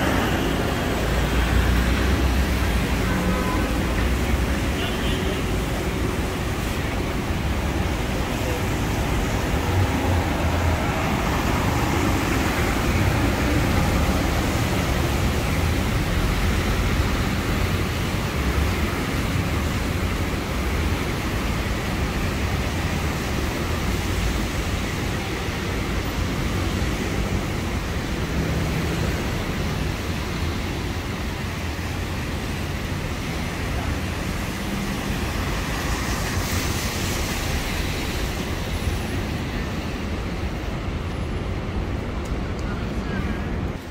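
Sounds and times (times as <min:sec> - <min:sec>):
traffic on wet road: 0:00.0 - 0:43.9.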